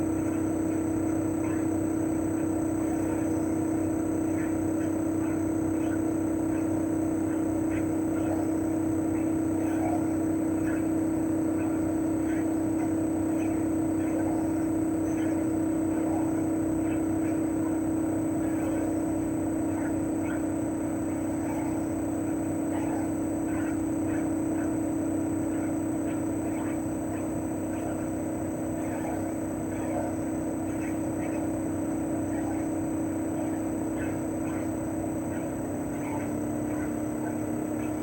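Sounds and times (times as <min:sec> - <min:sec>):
air conditioner compressor humming: 0:00.0 - 0:38.0
faint high whine: 0:00.0 - 0:38.0.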